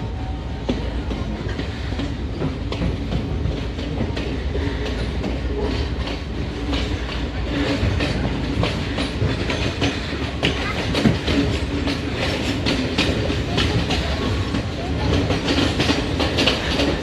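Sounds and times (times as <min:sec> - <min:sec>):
train rumble inside carriage: 0:00.0 - 0:17.0
wheels clicking over rails: 0:00.5 - 0:17.0.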